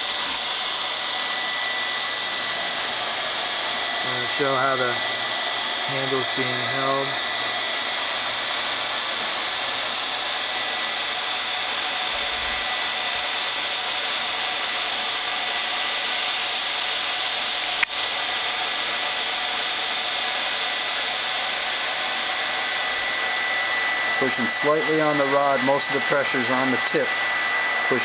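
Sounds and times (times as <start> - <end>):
hot-air welding pen and blower: 0.0 - 28.0.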